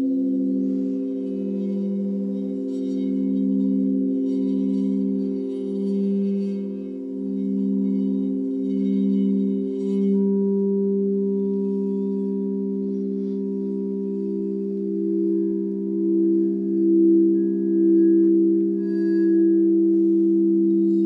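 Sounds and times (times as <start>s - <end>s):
faint high chime tinkles: 0.0s - 21.0s.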